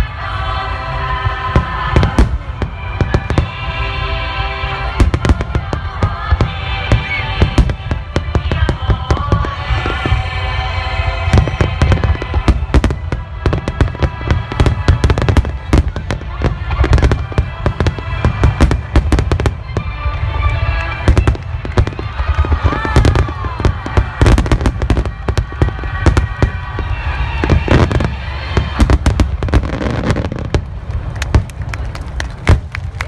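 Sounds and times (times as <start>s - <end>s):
music from loudspeakers: 0.0s - 30.2s.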